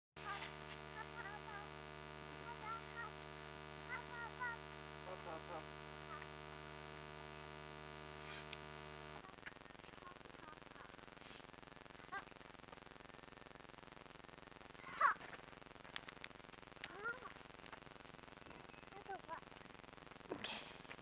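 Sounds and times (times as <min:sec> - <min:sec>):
electrical hum: 0:00.2 - 0:21.0.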